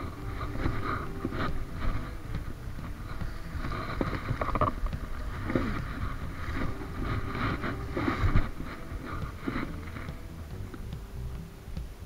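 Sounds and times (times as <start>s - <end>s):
grass and clothing rustling: 0.0s - 12.0s
wind rumble on microphone: 0.0s - 12.0s.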